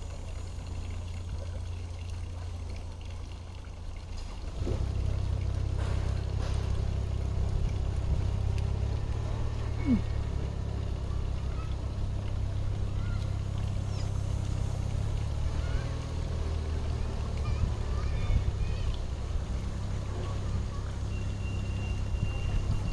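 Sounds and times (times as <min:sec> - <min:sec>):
low mechanical hum: 0:00.0 - 0:22.9.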